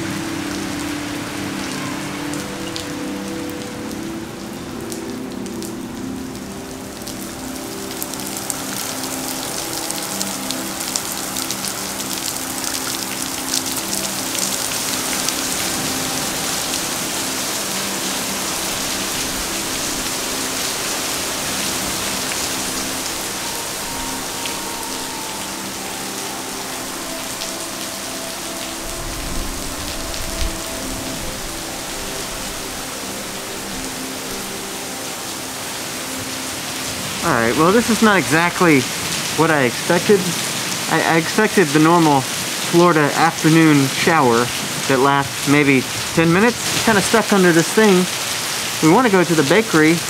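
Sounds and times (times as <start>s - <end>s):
heavy rain on pavement: 0.0s - 50.0s.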